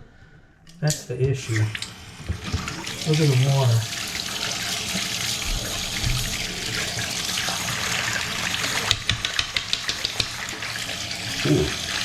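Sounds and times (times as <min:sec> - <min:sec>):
faucet water running into sink: 0:01.2 - 0:12.0.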